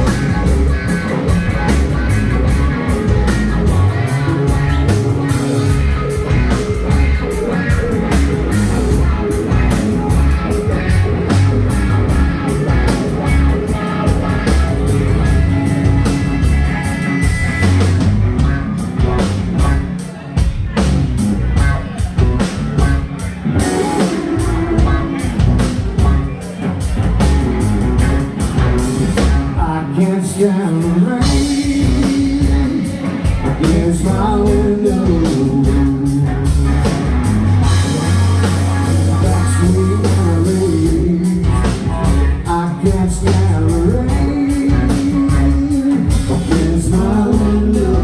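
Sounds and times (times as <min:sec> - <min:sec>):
blues band playing: 0:00.0 - 0:48.0
drum kit: 0:00.0 - 0:48.0
guitar: 0:00.0 - 0:48.0.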